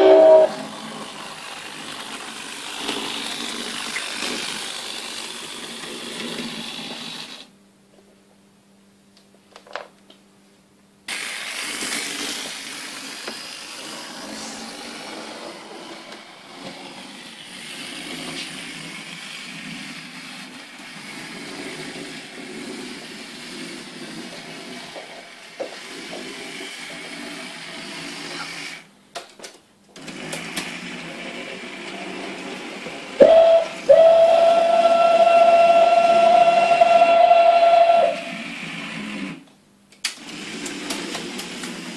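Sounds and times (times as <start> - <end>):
model train running: 0.0 - 7.5, 11.1 - 28.9, 30.0 - 39.4, 40.0 - 41.9.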